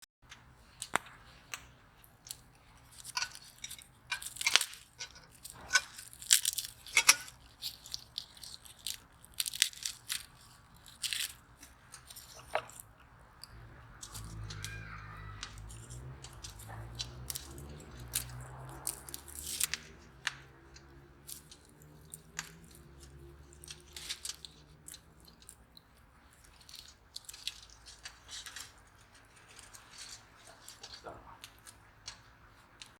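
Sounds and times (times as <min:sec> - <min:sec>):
garlic skins crackling: 0:00.3 - 0:32.9.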